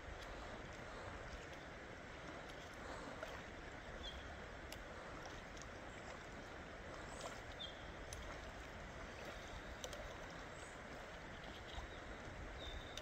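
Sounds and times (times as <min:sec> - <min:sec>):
water swishing as person wades: 0:00.0 - 0:13.0.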